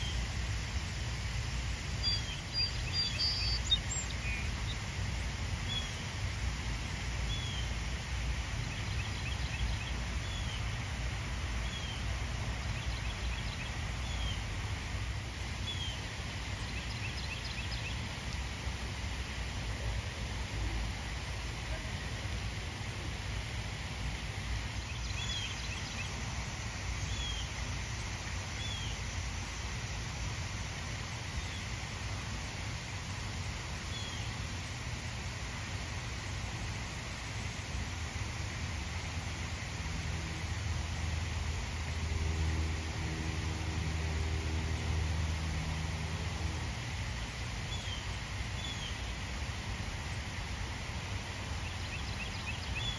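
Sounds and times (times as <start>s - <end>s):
low rumble and hiss: 0.0s - 52.9s
outdoor background noise: 0.0s - 52.9s.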